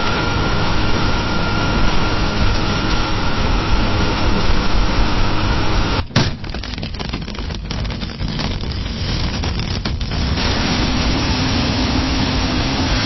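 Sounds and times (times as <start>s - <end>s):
fire roaring: 0.0s - 13.0s
fire crackling and popping: 1.2s - 12.5s.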